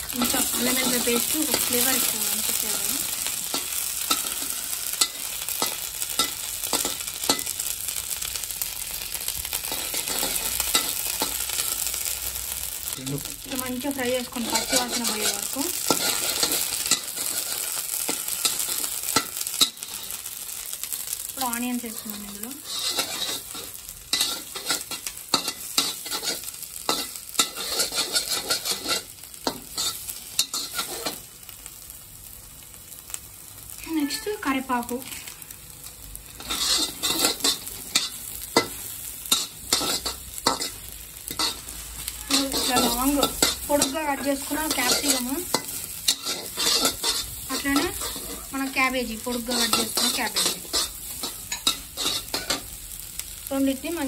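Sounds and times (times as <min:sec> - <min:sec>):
paste sizzling in hot oil: 0:00.0 - 0:54.0
metal spatula scraping a wok: 0:00.1 - 0:08.1, 0:09.5 - 0:12.2, 0:14.1 - 0:31.3, 0:36.3 - 0:53.3.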